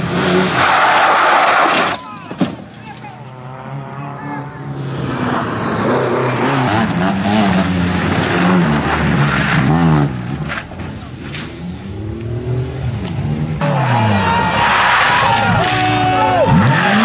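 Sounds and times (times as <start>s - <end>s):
rally car engine revving: 0.0s - 2.1s, 3.0s - 17.0s.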